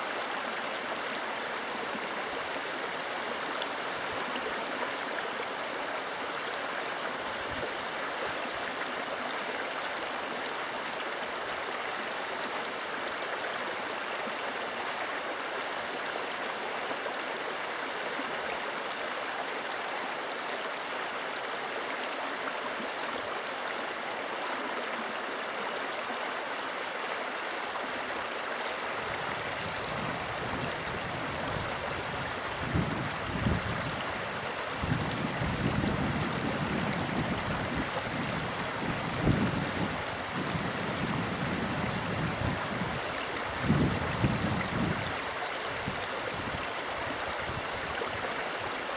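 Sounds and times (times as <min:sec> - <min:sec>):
river rushing over stones: 0:00.0 - 0:48.9.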